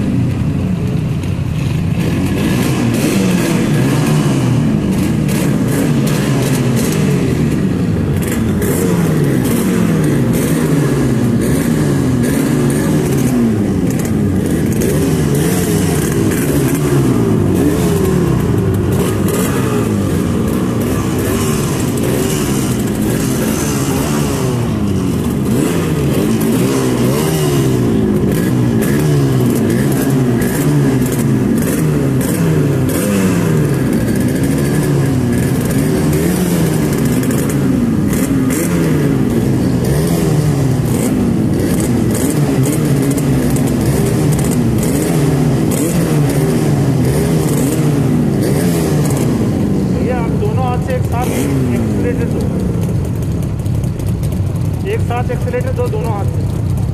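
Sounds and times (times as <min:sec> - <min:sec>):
two-stroke motorcycle engines revving: 0:00.0 - 0:56.9.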